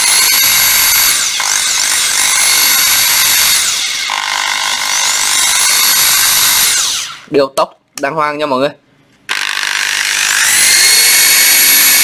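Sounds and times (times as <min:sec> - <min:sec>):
impact driver motor whine: 0:00.0 - 0:07.3, 0:09.3 - 0:12.0.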